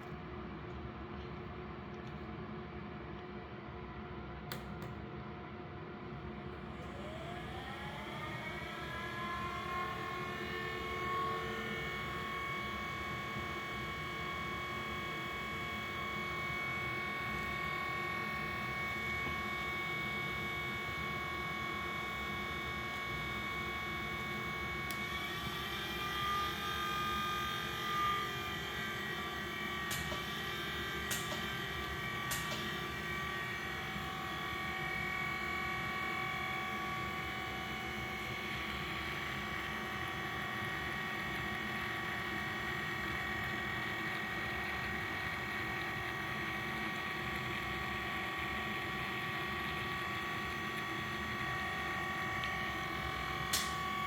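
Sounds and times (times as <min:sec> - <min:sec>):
inkjet printer whine: 0:06.6 - 0:54.0.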